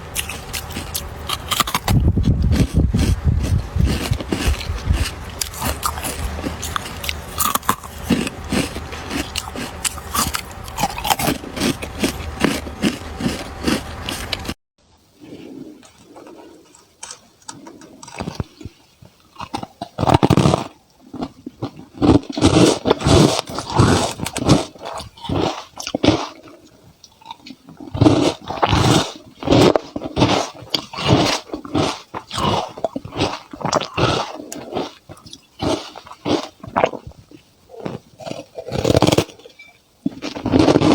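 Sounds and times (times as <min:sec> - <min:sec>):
ice crunching while chewed: 0:00.1 - 0:14.6, 0:15.8 - 0:40.9.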